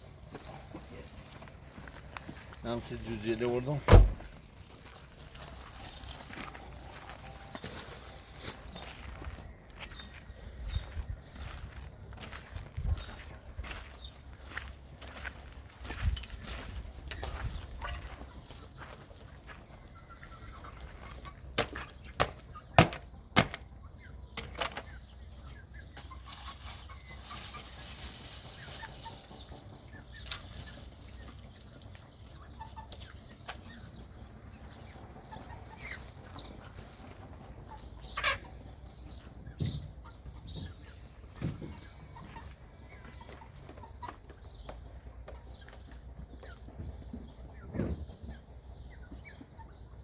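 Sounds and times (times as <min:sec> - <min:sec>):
chickens clucking: 0:00.0 - 0:03.8, 0:04.5 - 0:50.0.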